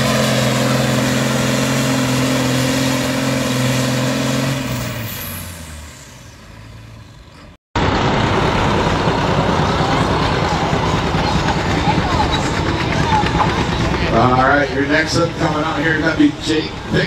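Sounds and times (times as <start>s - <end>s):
loud even rumbling: 0.0s - 17.0s
tractor diesel engine running: 0.0s - 17.0s.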